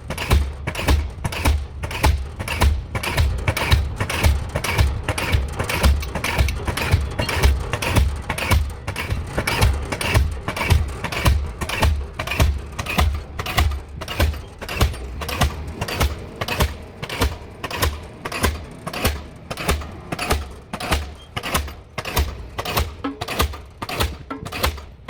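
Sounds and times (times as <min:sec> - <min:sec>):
pile-driving hammer blows: 0:00.0 - 0:25.0.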